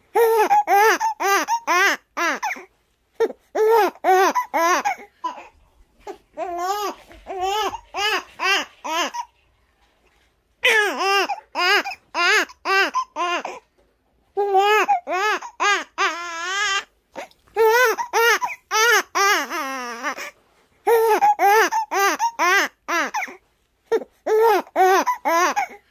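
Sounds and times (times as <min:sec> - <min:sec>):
baby crying: 0:00.1 - 0:05.5, 0:06.1 - 0:09.3, 0:10.6 - 0:13.7, 0:14.4 - 0:25.9.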